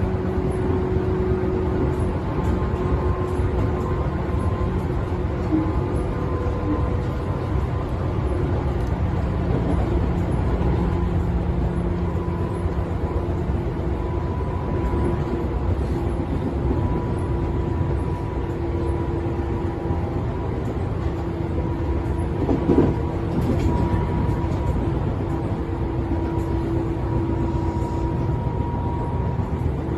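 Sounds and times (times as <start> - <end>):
electric train rumbling: 0.0 - 29.9.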